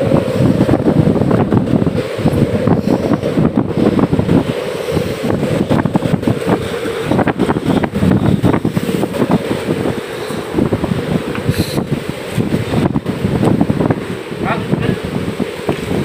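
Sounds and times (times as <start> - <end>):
rough sea rushing: 0.0 - 16.0
wind buffeting microphone: 0.0 - 16.0.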